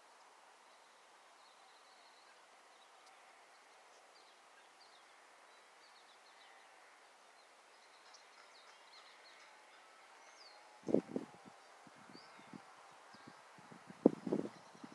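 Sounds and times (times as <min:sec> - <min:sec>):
faint birdsong chirps: 0:00.0 - 0:14.9
soft steady hiss: 0:00.0 - 0:14.9.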